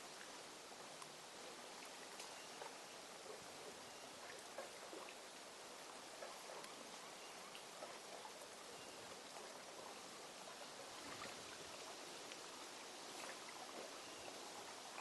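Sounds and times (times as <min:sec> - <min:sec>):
rain hiss: 0:00.0 - 0:15.0.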